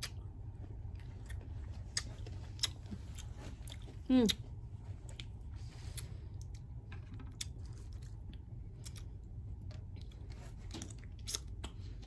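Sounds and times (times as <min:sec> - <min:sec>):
person chewing fruit: 0:00.0 - 0:12.0.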